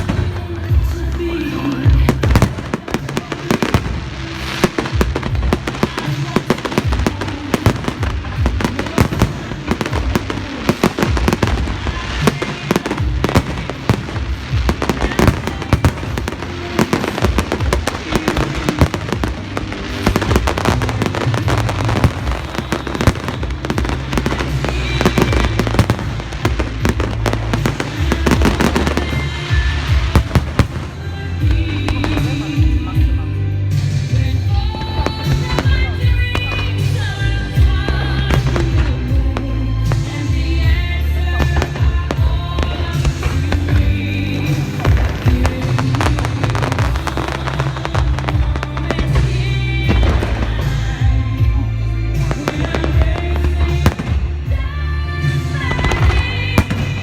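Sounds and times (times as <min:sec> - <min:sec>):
background music with bass: 0:00.0 - 0:57.0
fireworks bangs and crackles: 0:00.0 - 0:57.0.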